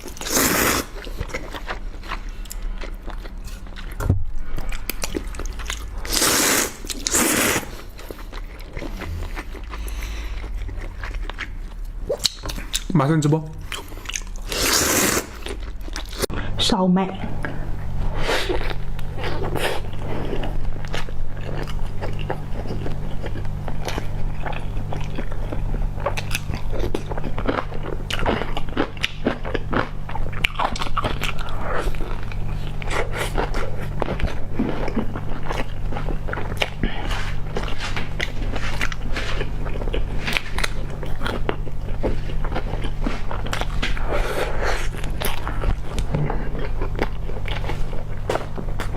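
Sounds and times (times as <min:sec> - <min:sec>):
food crunching: 0:00.0 - 0:16.3, 0:18.5 - 0:48.9
wet chewing: 0:00.0 - 0:16.3, 0:18.4 - 0:48.9
steady low hum: 0:00.0 - 0:48.9.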